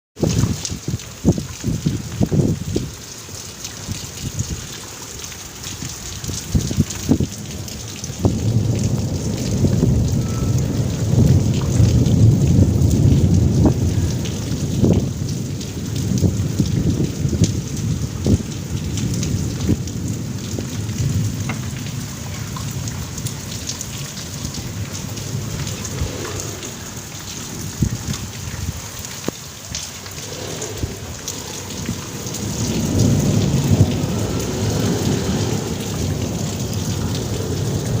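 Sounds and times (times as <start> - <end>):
heavy rain falling: 0.2 - 38.0
thunder rumbling: 5.8 - 38.0.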